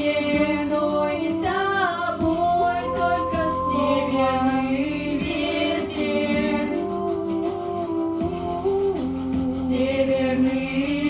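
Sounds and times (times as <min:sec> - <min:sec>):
girls singing together: 0:00.0 - 0:11.0.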